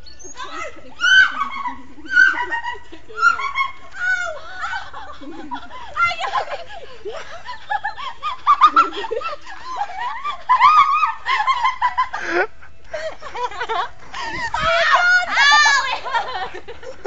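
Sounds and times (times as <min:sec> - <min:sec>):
high-pitched laughter and giggling: 0:00.2 - 0:17.0.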